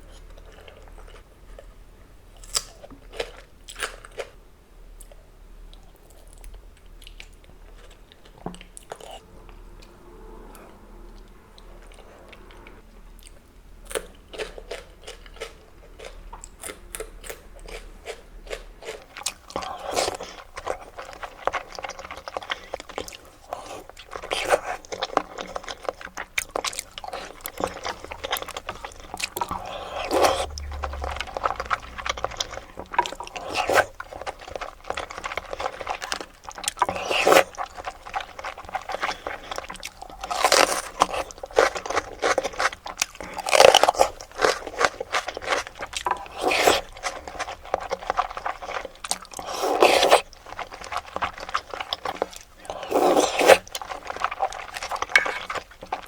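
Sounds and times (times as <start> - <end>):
person chewing wetly: 10.5 - 56.0.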